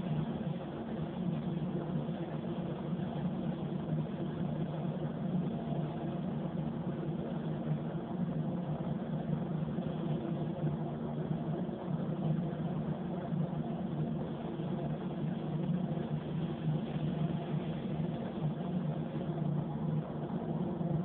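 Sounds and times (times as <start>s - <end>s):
ventilation fans droning: 0.0s - 21.0s.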